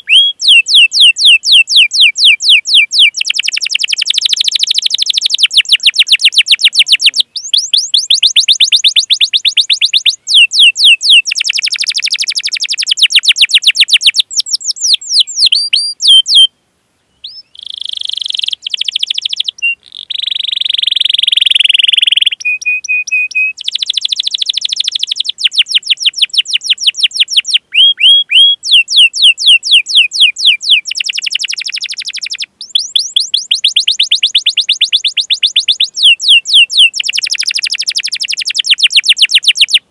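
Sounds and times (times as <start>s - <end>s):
canary singing trills: 0.0s - 16.5s, 17.1s - 39.9s.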